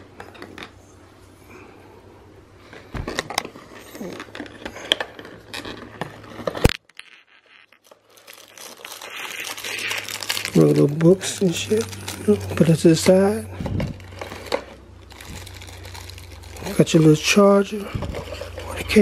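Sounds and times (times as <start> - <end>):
packaging rustling and scraping: 2.6 - 19.0
plastic crinkling: 2.7 - 19.0.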